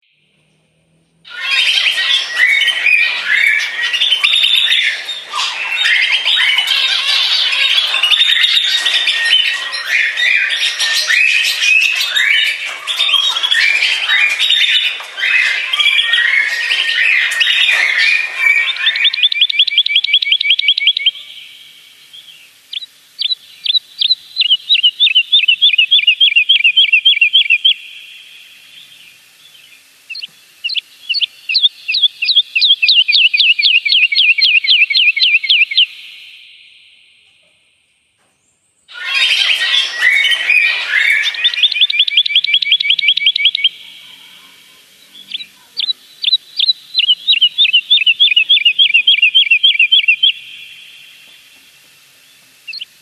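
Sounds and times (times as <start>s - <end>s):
songbird singing: 1.3s - 53.0s.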